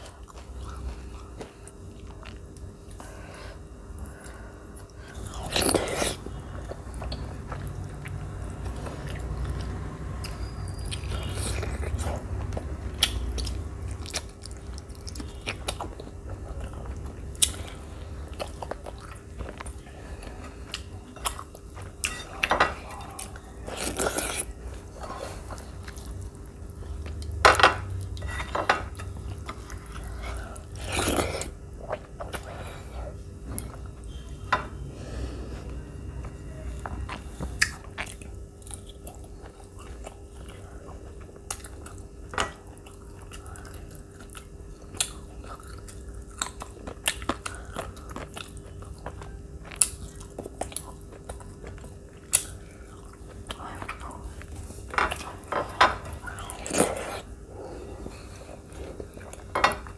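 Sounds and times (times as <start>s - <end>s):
person chewing: 0.0s - 34.3s, 35.2s - 59.9s.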